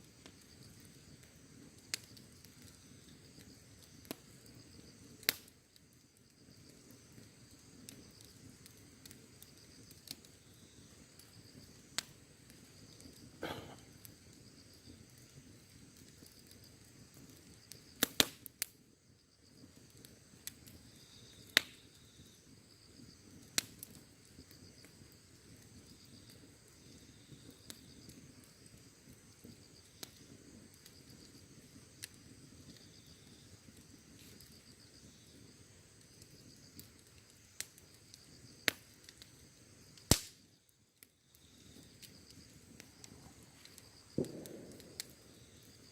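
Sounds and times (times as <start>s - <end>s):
crickets chirping: 0.0s - 18.0s, 18.8s - 45.9s
sharp pops from fire: 0.0s - 45.9s
wood campfire crackling: 0.0s - 45.9s.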